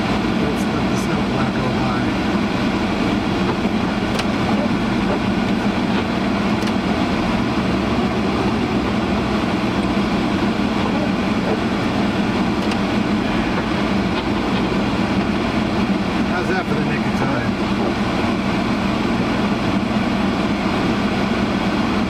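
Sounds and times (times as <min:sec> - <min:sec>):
car driving noise: 0:00.0 - 0:22.0
car fan blowing: 0:00.0 - 0:22.0.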